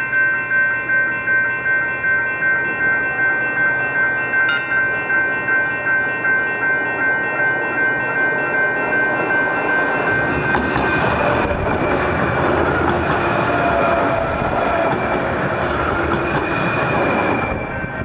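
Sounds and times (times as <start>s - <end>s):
light rail train passing: 0.0s - 18.0s
wheels rumbling on rail: 2.6s - 18.0s.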